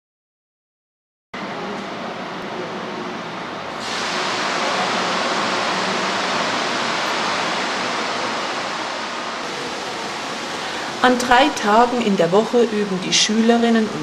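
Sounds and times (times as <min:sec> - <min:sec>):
gas burners hissing: 0:02.6 - 0:14.0.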